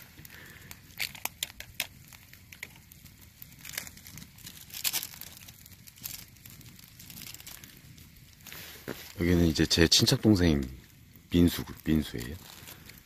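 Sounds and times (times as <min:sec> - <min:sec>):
trash crackling in campfire: 0:00.0 - 0:13.0.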